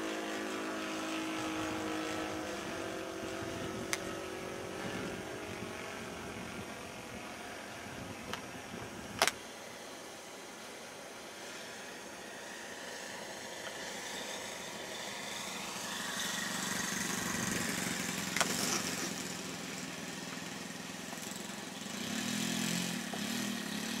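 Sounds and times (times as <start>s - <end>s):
low pulsing hum: 0.0s - 21.2s
light aircraft engine drone: 0.0s - 24.0s.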